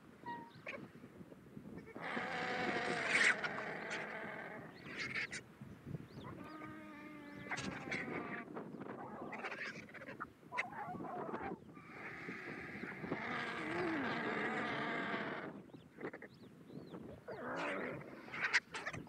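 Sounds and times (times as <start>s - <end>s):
vultures harsh calls: 1.8s - 5.4s, 6.2s - 16.3s, 17.1s - 19.0s.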